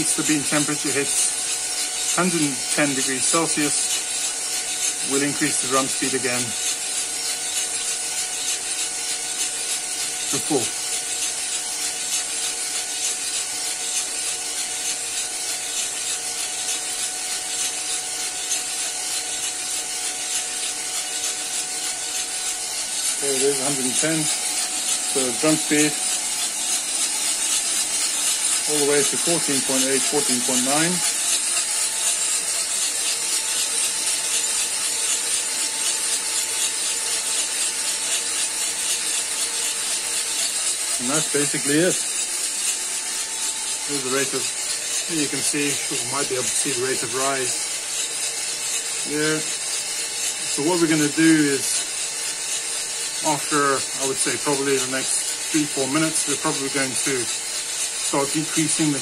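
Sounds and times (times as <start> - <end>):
coffee beans tumbling in drum: 0.0 - 59.0
coffee roaster fan and motor humming: 0.0 - 59.0.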